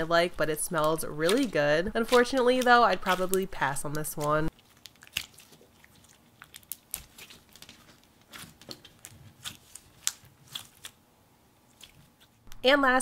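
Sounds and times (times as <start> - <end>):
hands squeezing sticky slime: 1.2 - 11.0, 11.7 - 12.4.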